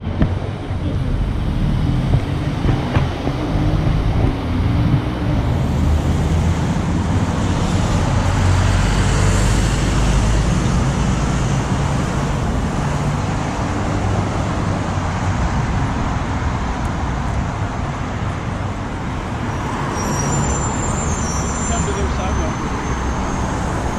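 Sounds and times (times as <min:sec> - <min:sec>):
road traffic: 0:00.0 - 0:23.9.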